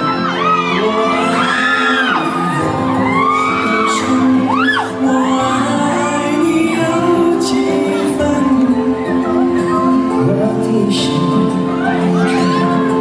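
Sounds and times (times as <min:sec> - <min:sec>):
fans screaming and whooping: 0:00.0 - 0:13.0
live pop song over pa: 0:00.0 - 0:13.0
man singing: 0:00.0 - 0:13.0.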